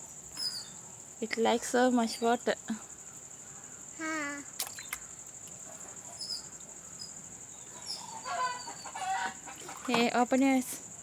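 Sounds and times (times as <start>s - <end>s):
insect trilling: 0.4s - 10.6s.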